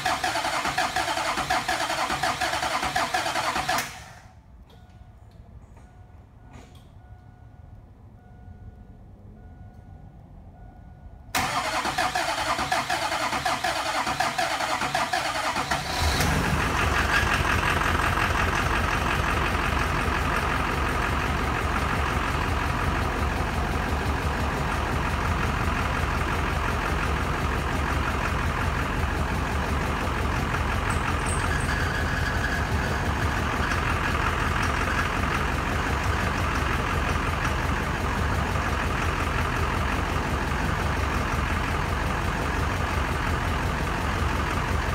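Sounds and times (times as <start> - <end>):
diesel engine idling: 0.0 - 7.2, 10.5 - 44.9.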